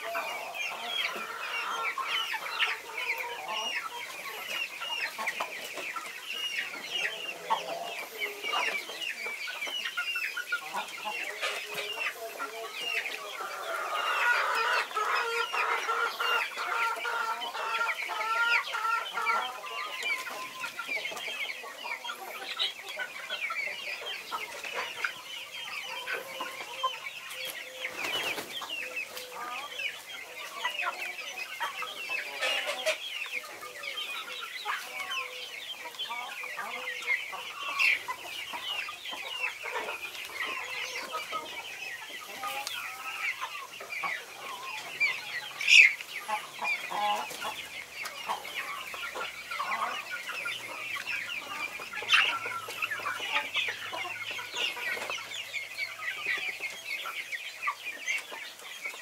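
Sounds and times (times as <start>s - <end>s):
young chickens clucking: 0.0s - 59.0s.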